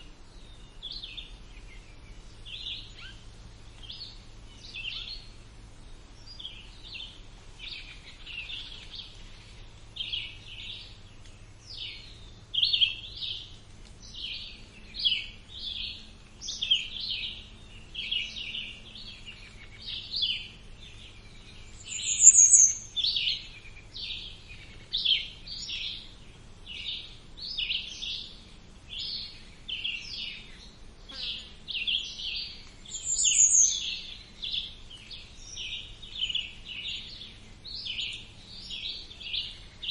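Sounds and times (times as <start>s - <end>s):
faint low hum: 0.0s - 39.9s
songbirds chirping: 0.0s - 39.9s.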